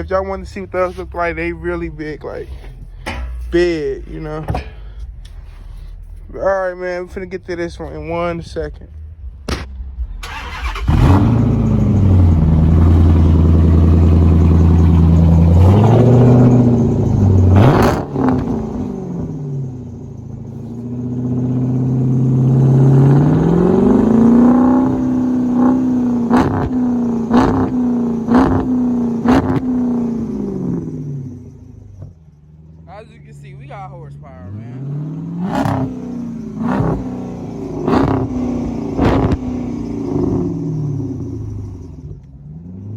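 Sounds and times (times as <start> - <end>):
car engine revving: 0.0 - 42.9
exhaust cracks: 0.0 - 42.9.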